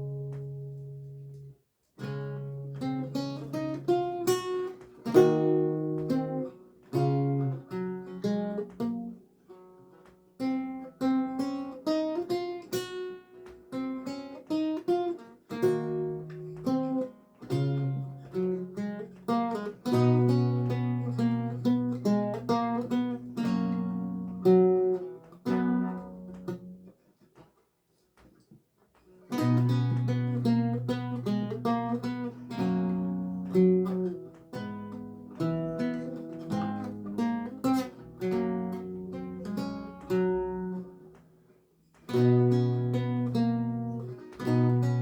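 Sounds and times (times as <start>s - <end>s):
solo lute music: 0.0s - 45.0s.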